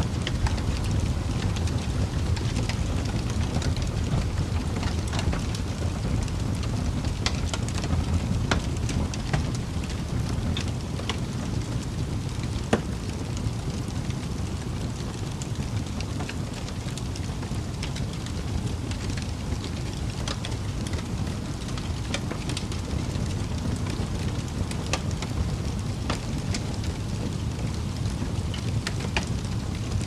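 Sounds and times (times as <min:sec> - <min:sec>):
logs crackling and popping: 0:00.0 - 0:30.0
low rumble of flames: 0:00.0 - 0:30.0.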